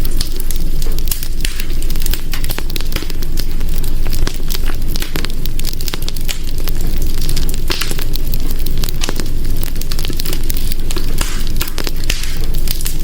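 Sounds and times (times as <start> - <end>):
low rumble of flame: 0.0 - 13.0
wood fire crackling and popping: 0.0 - 13.0.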